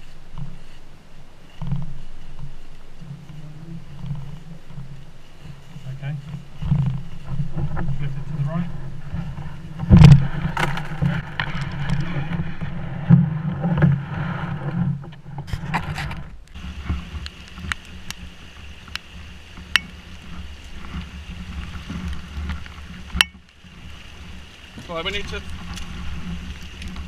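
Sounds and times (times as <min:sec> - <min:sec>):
canoe hull knocking and scraping: 0:00.0 - 0:27.0
deep rumble: 0:00.0 - 0:27.0.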